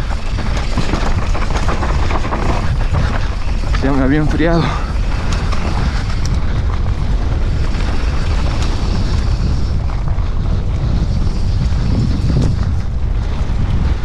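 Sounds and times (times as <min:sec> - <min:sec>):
bike tyres rolling over dirt: 0:00.0 - 0:14.0
wind buffeting microphone: 0:00.0 - 0:14.0.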